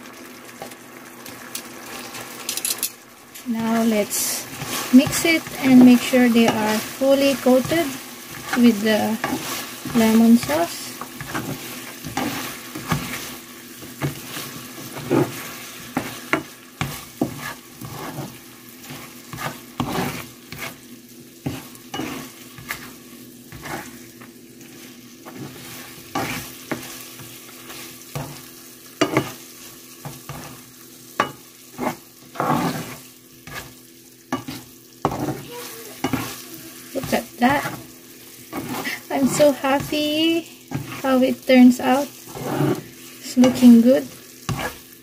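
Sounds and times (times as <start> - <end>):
sauce sizzling: 0.0 - 45.0
spatula scraping frying pan: 3.5 - 45.0.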